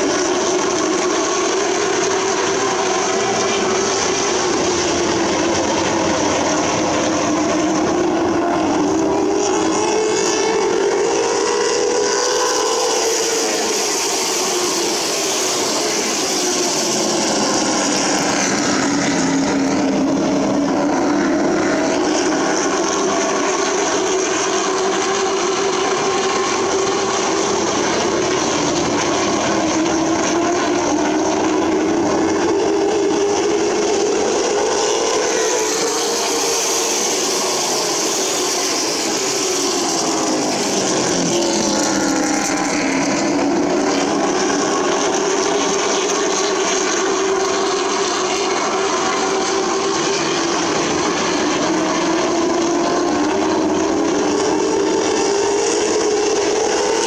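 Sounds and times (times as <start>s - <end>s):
race car engines: 0.0s - 57.0s.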